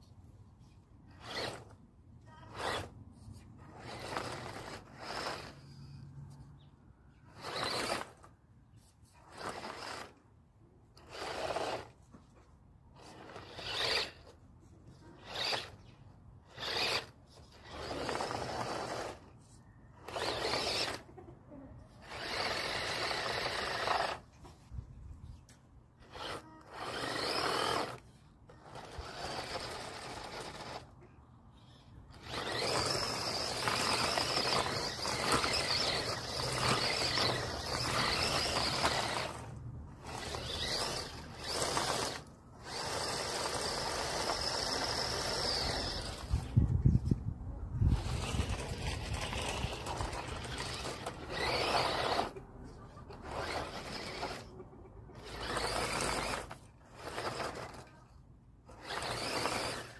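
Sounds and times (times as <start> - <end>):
toy truck motor whining: 1.1 - 25.0, 26.0 - 59.9
tyres scrabbling in loose dirt: 3.6 - 5.7, 6.3 - 8.3, 9.2 - 10.2, 11.0 - 14.4, 15.2 - 19.3, 20.0 - 21.2, 22.0 - 31.0, 31.6 - 58.0, 58.6 - 59.9.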